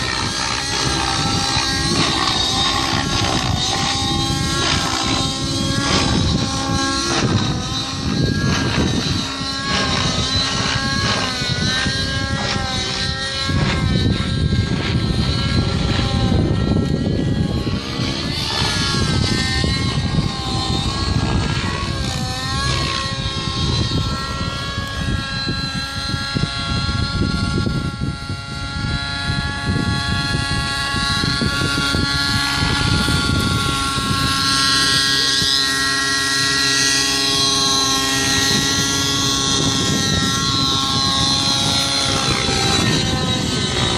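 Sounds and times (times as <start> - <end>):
rc helicopter engine and rotor whine: 0.0 - 43.9.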